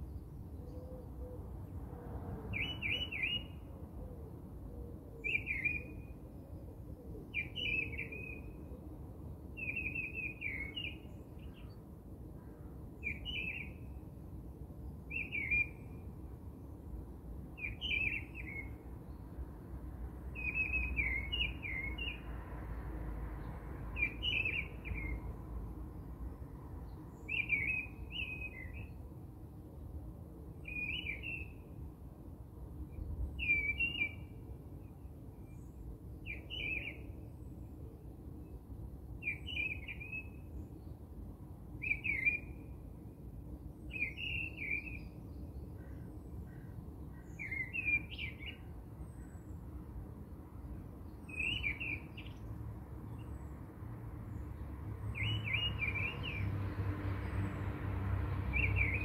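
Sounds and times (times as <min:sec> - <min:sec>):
low steady background noise: 0:00.0 - 0:59.0.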